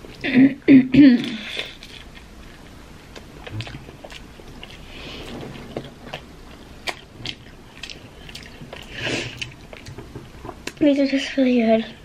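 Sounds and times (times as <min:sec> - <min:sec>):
chewing crunchy food: 0:01.3 - 0:11.1.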